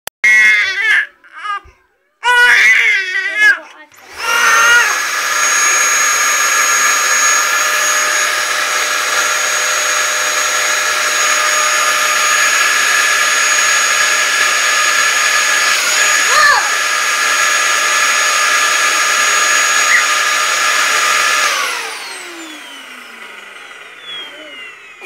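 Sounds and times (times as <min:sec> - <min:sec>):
vacuum cleaner running: 0:03.8 - 0:25.0.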